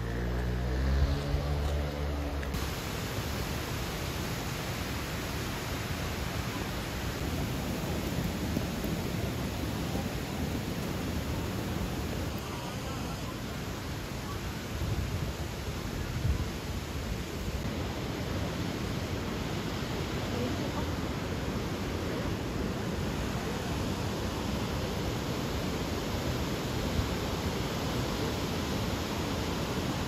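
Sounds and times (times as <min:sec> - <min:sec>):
waterfall roaring: 0:01.4 - 0:30.0.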